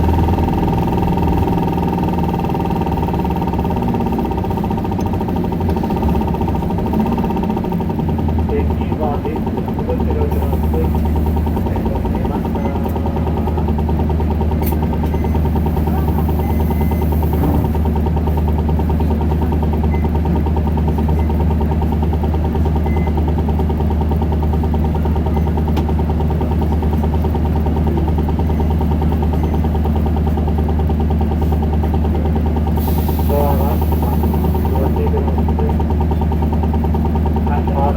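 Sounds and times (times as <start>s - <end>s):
bus diesel engine drone: 0.0s - 37.9s.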